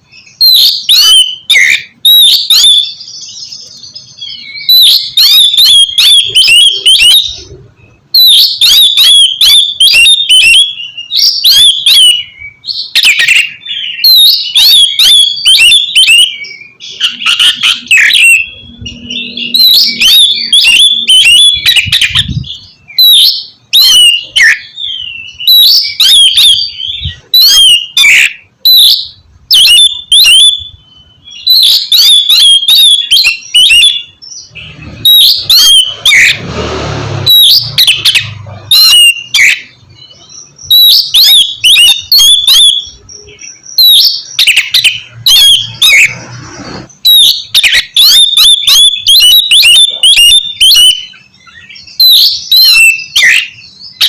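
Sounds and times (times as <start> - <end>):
magpie-robin singing: 0.0 - 36.4, 37.3 - 46.3, 46.9 - 54.0.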